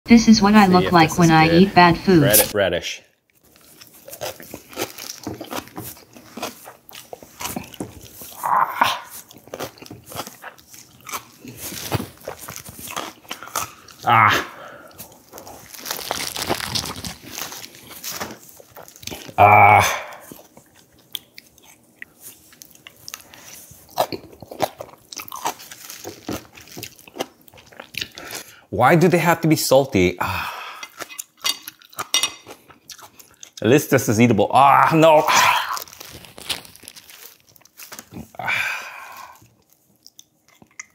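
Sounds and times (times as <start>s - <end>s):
chewing crunches: 3.3s - 19.4s, 20.1s - 28.5s, 30.8s - 33.7s, 35.3s - 40.9s.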